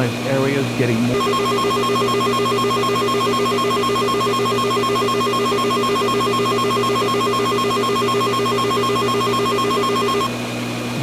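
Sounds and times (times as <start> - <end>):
two-tone pulsing alert alarm: 1.2 - 10.3.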